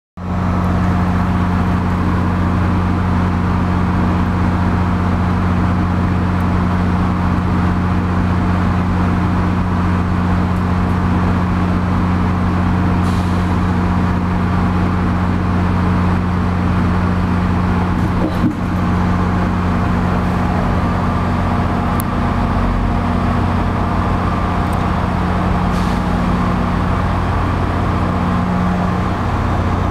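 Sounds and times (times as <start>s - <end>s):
locomotive engine idling: 0.2s - 29.9s.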